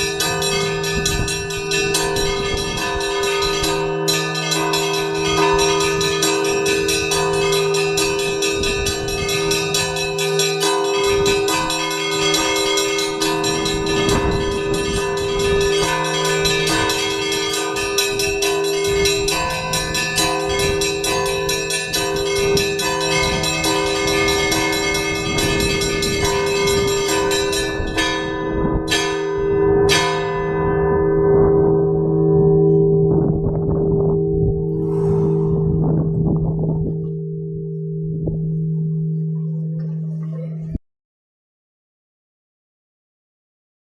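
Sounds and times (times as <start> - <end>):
small church bells ringing fast: 0.0 - 35.9
large bells humming: 0.0 - 40.8.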